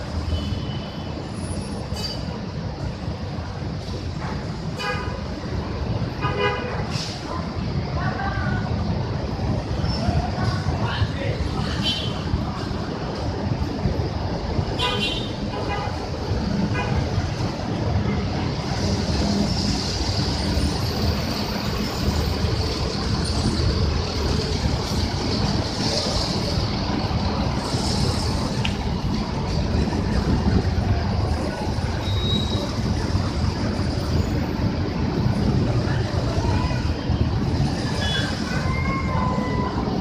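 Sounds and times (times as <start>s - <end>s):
bus engines rumbling: 0.0s - 40.0s
traffic wash: 0.0s - 40.0s.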